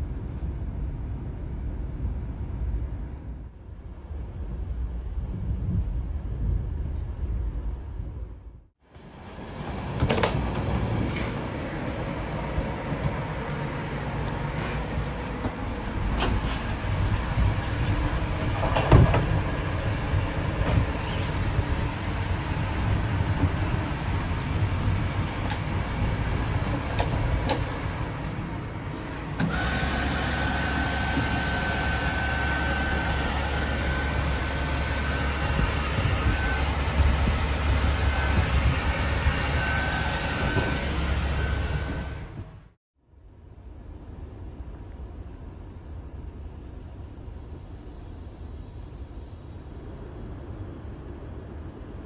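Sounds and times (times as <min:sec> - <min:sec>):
moving train running noise: 0:00.0 - 0:42.8, 0:43.7 - 0:52.0.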